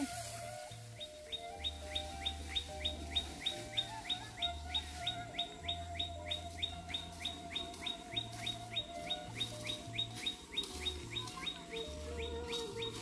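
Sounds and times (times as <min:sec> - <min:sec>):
bird chirping: 0:00.8 - 0:13.0.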